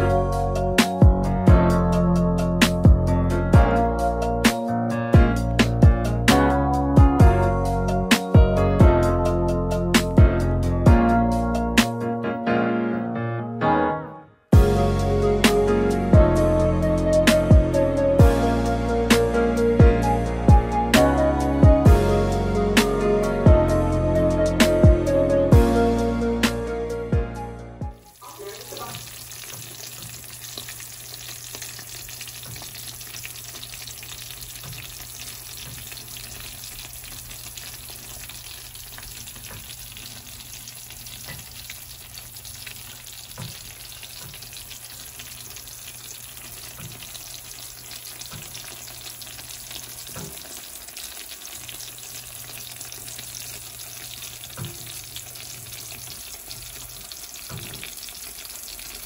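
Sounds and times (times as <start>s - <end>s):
sauce sizzling and bubbling: 0.0s - 11.8s, 14.6s - 27.1s, 27.9s - 59.0s.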